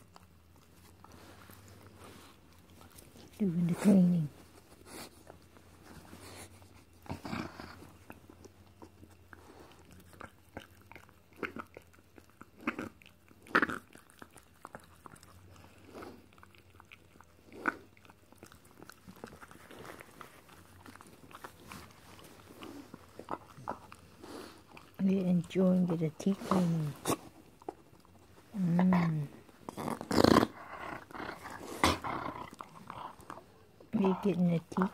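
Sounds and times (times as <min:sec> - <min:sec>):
dog licking and chewing: 0:00.0 - 0:34.9.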